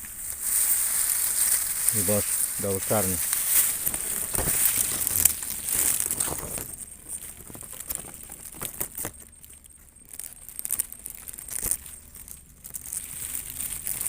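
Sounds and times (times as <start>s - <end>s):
dry grass rustling and crackling: 0.0s - 14.0s
high steady hiss: 0.0s - 14.0s.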